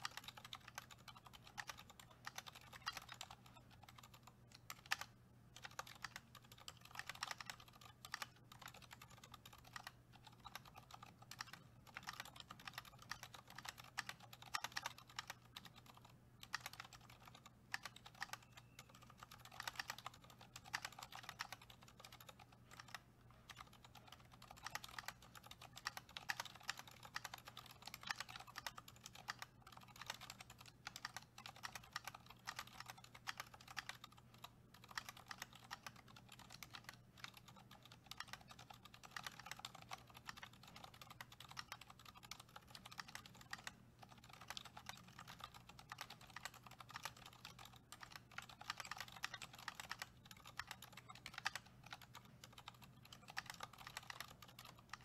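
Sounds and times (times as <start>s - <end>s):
soft keyboard typing: 0.0s - 55.0s.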